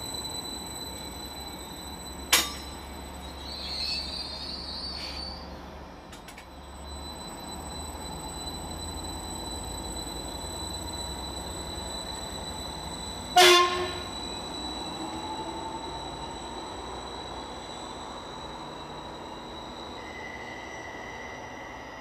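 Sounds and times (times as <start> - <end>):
faint high squeal: 0.0 - 22.0
train rumble: 0.0 - 22.0.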